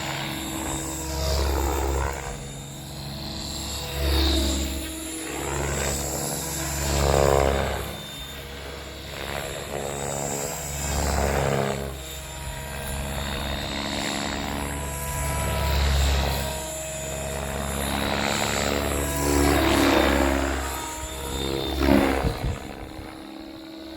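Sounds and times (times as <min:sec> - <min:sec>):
rc helicopter rotor whine: 0:00.0 - 0:23.9.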